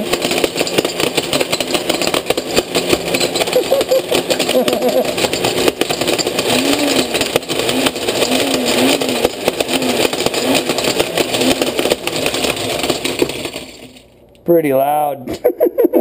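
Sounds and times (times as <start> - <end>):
blender motor running: 0.0 - 13.9
sunglasses clattering in blender jar: 0.0 - 14.2.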